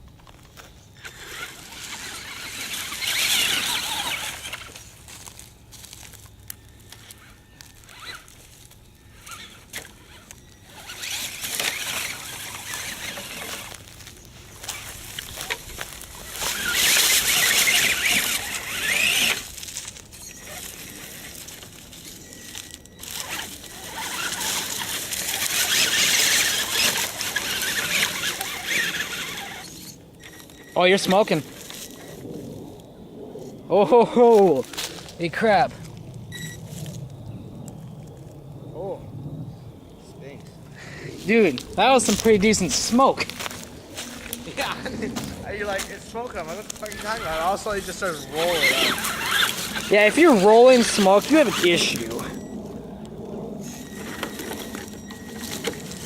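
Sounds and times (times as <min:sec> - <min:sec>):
electric motor whining: 0:00.4 - 0:32.4, 0:41.2 - 0:56.0.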